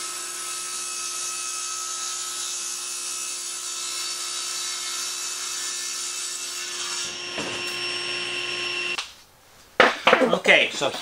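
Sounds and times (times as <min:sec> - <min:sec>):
table saw cutting wood: 0:00.0 - 0:09.0.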